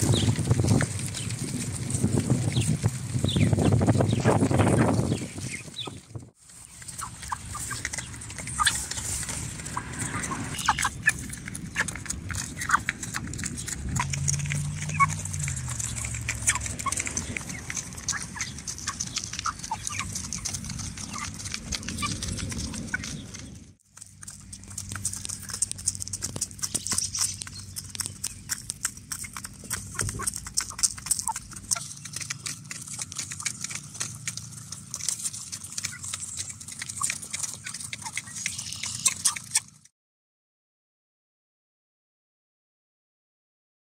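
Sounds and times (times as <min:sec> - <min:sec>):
chicks peeping: 0:00.0 - 0:39.8
chickens pecking on metal trough: 0:00.0 - 0:39.9.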